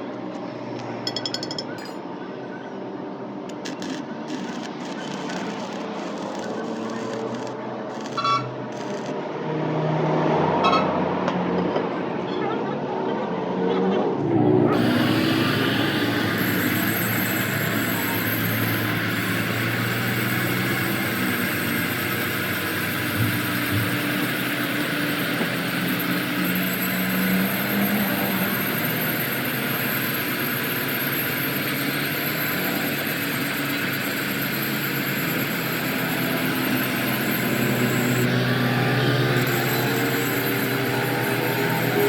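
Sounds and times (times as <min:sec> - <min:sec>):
machine droning: 0:03.5 - 0:09.5, 0:14.2 - 0:42.0.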